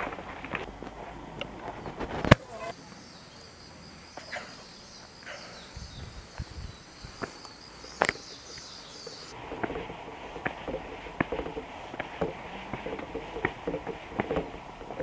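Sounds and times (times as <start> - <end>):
footsteps on gravel: 0.0 - 2.8, 4.2 - 15.0
insects chirring: 0.0 - 15.0.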